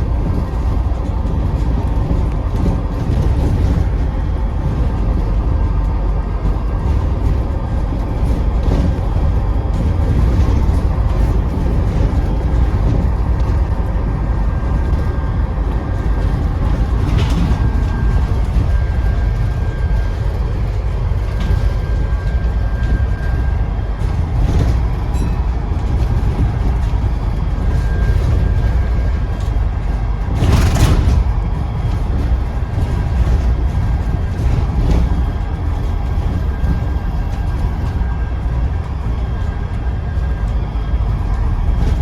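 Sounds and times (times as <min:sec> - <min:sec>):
diesel bus engine rumble: 0:00.0 - 0:42.0
road noise: 0:00.0 - 0:42.0.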